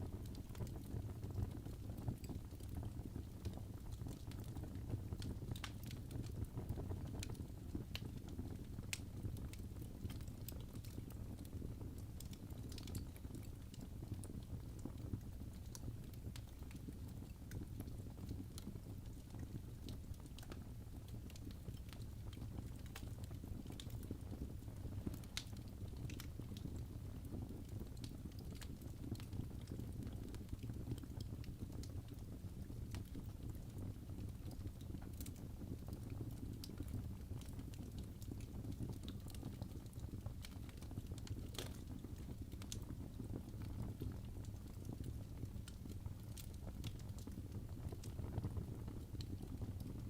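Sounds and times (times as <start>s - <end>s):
fire crackling and popping: 0.0s - 50.0s
wood fire rumbling: 0.0s - 50.0s.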